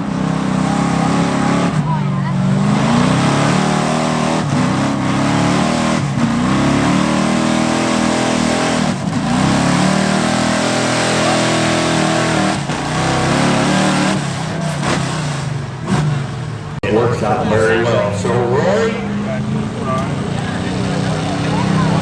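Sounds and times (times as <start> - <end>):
pickup truck engine revving: 0.0 - 22.0.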